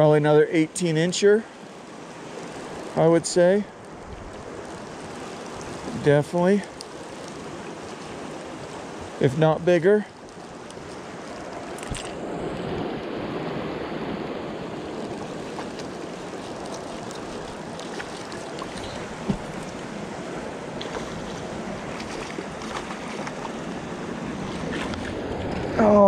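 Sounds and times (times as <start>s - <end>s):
river current rushing: 0.0s - 26.0s.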